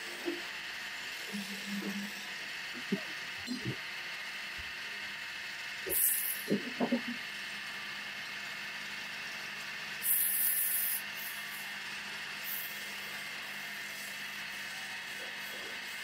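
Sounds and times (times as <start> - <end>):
lathe motor humming: 0.0 - 16.0.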